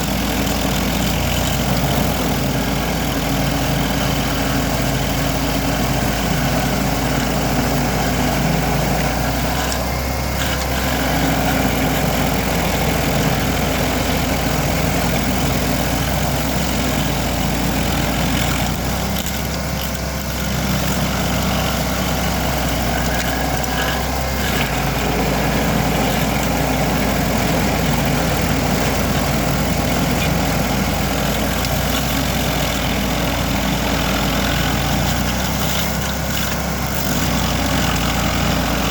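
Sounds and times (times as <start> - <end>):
cutter wheel grinding stump: 0.0 - 38.9
stump grinder engine running: 0.0 - 38.9.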